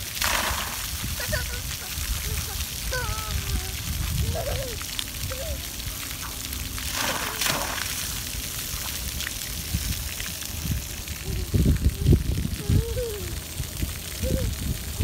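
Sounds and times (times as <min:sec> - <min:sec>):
water jets spraying: 0:00.0 - 0:15.0.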